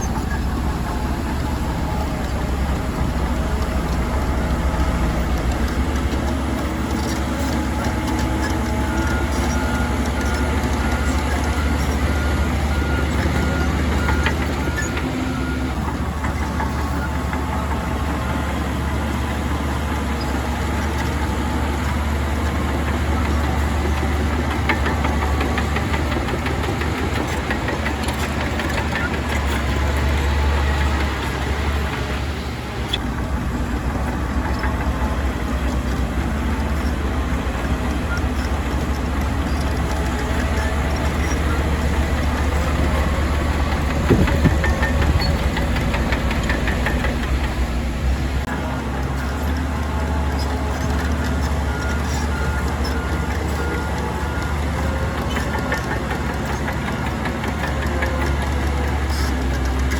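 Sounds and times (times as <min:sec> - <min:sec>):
heavy diesel engines humming: 0:00.0 - 0:59.9.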